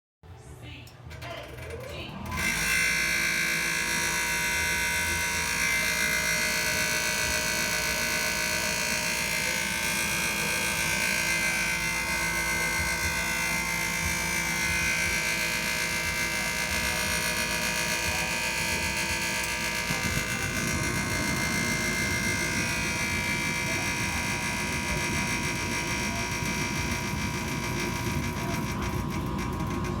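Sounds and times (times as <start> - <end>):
furnace scraping buzz with whine: 0.3 - 30.0
low rough rumbling noise: 3.8 - 30.0.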